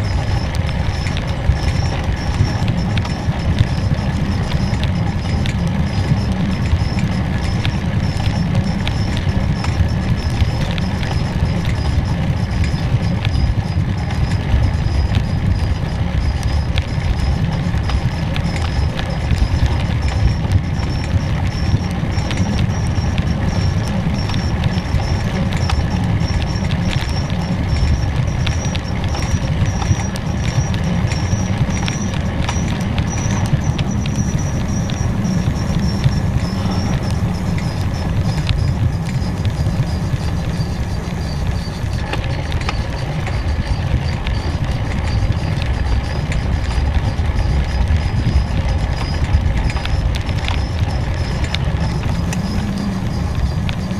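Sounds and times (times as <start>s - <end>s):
thin high wavering whine: 0.0s - 53.9s
wind rumble on microphone: 0.0s - 53.9s.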